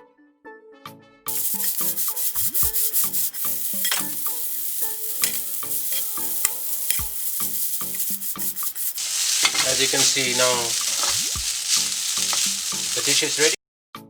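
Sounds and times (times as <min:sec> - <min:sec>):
utensil tapping and scraping pan: 0:01.3 - 0:13.5
food sizzling in hot oil: 0:01.3 - 0:13.6.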